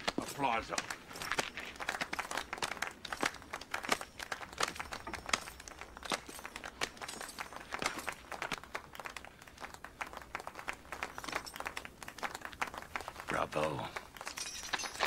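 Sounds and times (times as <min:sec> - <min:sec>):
scattered applause: 0:00.4 - 0:14.5.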